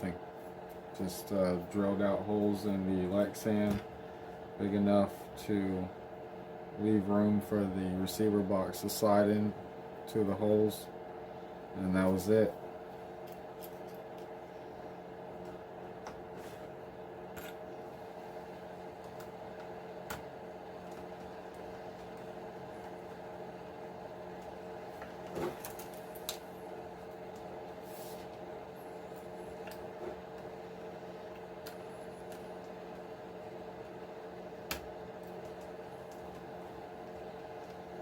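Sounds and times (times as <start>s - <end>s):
mechanical hum: 0.0s - 38.0s.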